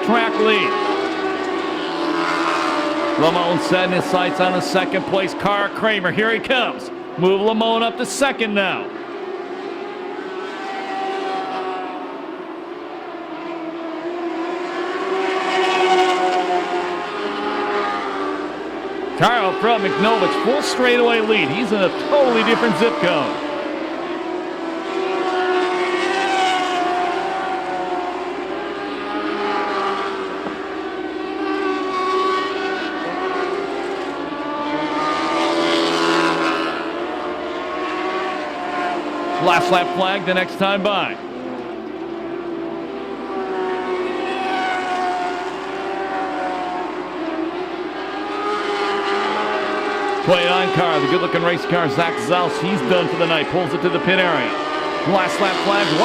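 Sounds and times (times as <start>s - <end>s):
racing car engines at high revs: 0.0s - 56.0s.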